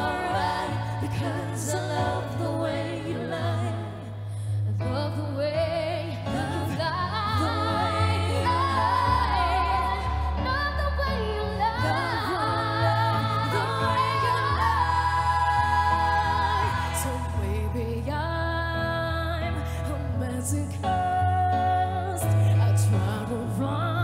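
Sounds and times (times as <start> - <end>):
women's vocal group singing: 0.0 - 19.6.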